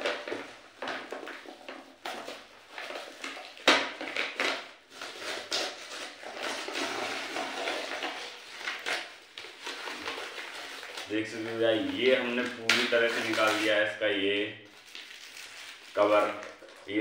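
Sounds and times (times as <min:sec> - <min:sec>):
plastic and paper cover crinkling: 0:00.0 - 0:17.0.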